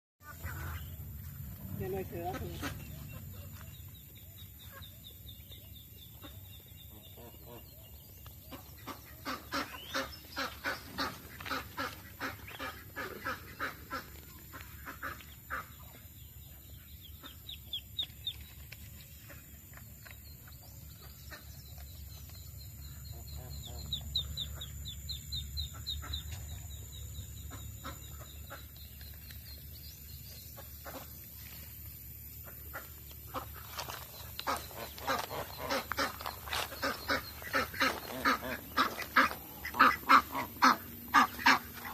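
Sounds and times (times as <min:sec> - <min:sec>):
ducks quacking: 0:00.2 - 0:05.2, 0:06.1 - 0:18.0, 0:21.0 - 0:21.8, 0:22.8 - 0:29.0, 0:30.4 - 0:31.6, 0:32.3 - 0:41.9
ducklings peeping: 0:00.2 - 0:41.9.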